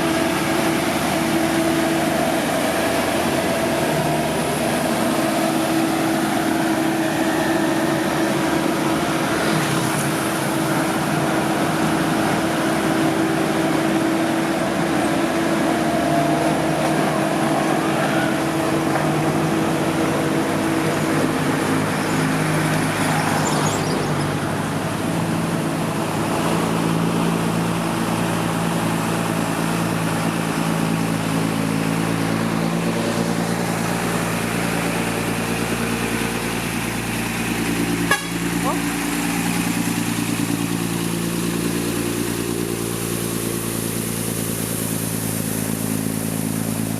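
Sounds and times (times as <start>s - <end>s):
diesel engines running: 0.0s - 46.9s.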